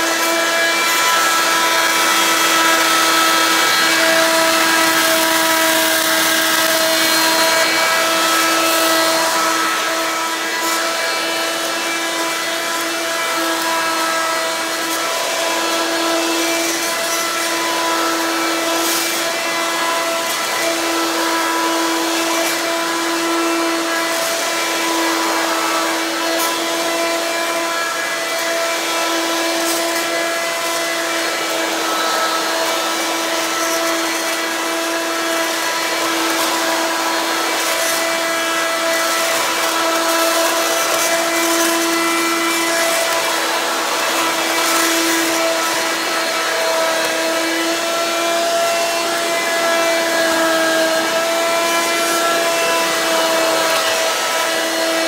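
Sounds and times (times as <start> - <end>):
stick vacuum whining: 0.0 - 55.0.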